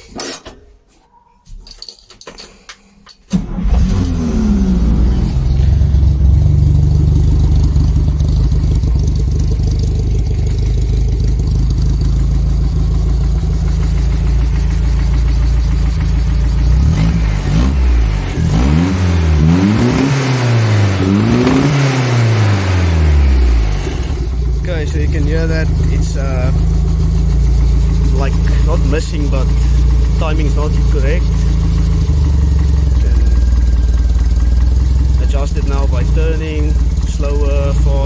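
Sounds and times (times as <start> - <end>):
car engine starting and revving: 3.3 - 38.0.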